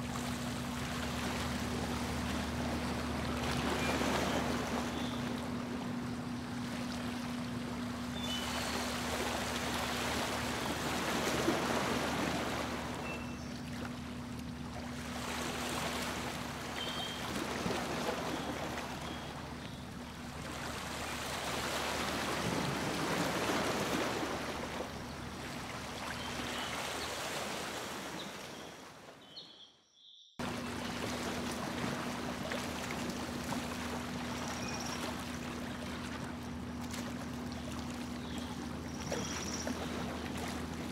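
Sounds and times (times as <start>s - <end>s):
boat engine hum: 0.0s - 29.1s, 30.4s - 40.9s
water rushing along hull: 0.0s - 29.2s, 30.4s - 40.9s.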